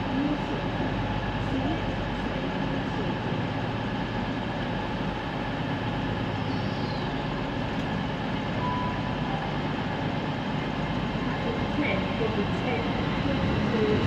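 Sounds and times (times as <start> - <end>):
train diesel engine running: 0.0 - 14.0.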